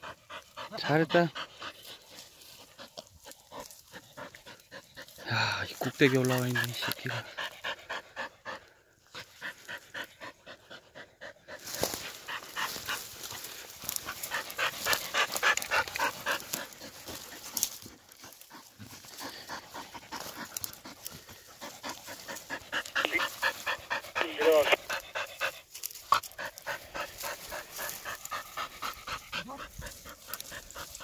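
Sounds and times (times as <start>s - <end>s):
dogs panting rapidly: 0.0s - 31.0s.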